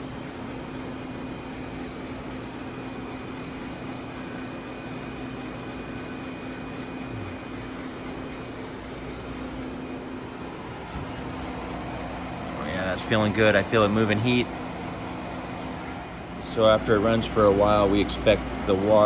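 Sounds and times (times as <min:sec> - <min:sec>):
machine motor humming: 0:00.0 - 0:19.0.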